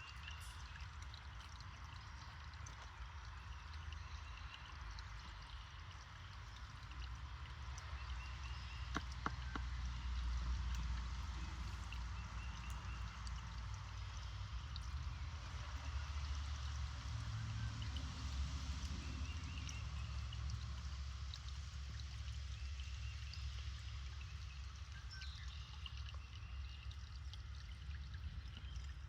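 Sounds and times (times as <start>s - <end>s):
creek running over stones: 0.0s - 29.0s.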